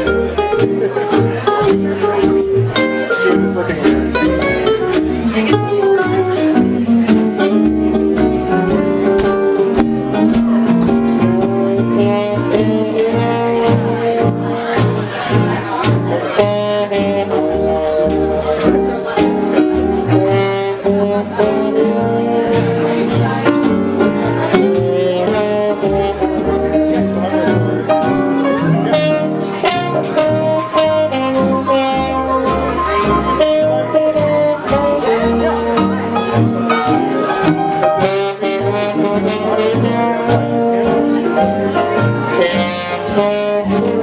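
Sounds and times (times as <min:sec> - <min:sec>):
horn playing melody: 0:00.0 - 0:15.4, 0:16.1 - 0:19.1, 0:19.7 - 0:44.0
upright bass walking line: 0:00.0 - 0:44.0.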